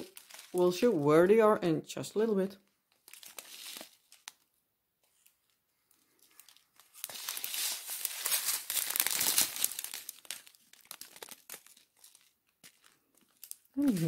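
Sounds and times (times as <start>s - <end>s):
plastic bags crinkling: 0.0s - 1.4s, 2.9s - 4.5s, 5.1s - 14.0s.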